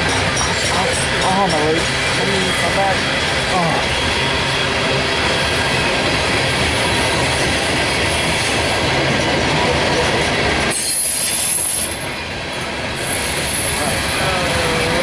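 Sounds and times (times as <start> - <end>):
train cars rumbling on rails: 0.0 - 15.0.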